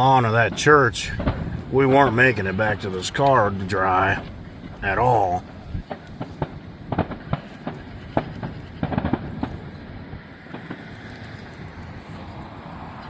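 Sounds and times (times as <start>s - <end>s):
distant fireworks popping: 0.0s - 13.0s.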